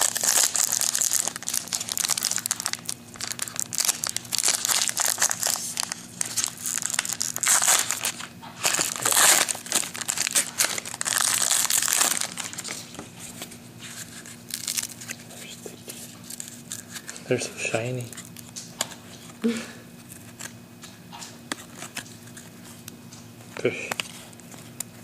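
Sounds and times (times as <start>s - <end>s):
foil wrapper crinkling: 0.0s - 19.4s, 20.0s - 23.0s, 23.9s - 25.0s.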